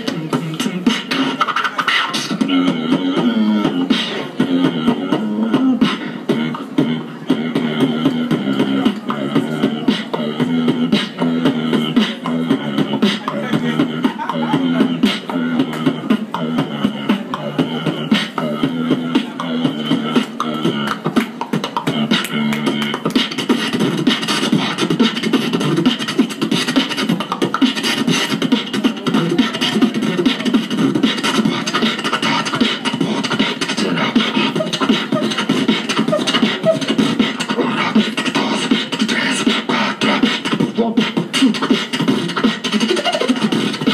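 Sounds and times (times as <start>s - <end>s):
beatboxing through amplifier: 0.0s - 43.9s.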